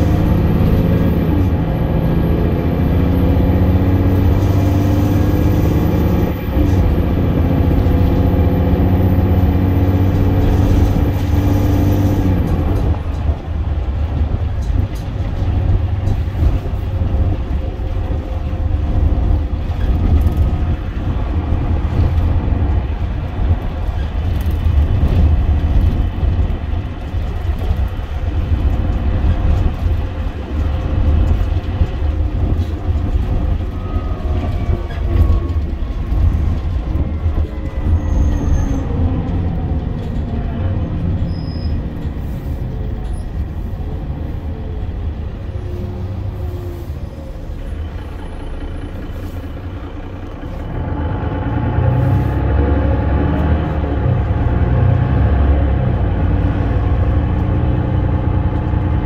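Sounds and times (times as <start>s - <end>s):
bus engine rumble: 0.0s - 59.0s
road noise: 0.0s - 59.0s.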